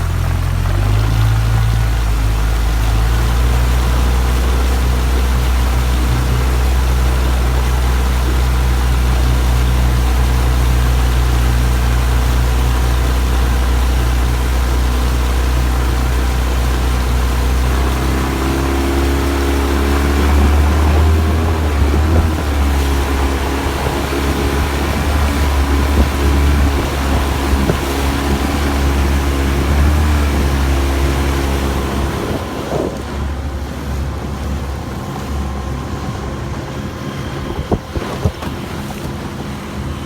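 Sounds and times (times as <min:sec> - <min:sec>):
outboard motor running: 0:00.0 - 0:40.0
water noise from hull: 0:00.0 - 0:40.0
wind buffeting microphone: 0:03.4 - 0:39.8.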